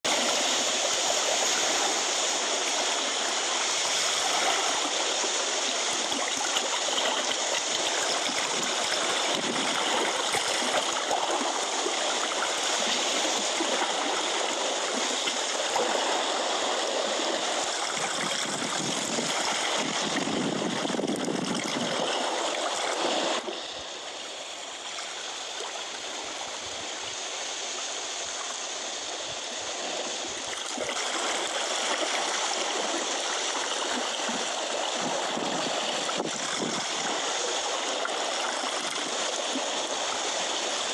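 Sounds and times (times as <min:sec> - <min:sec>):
seawater washing over rocks: 0:00.0 - 0:40.9.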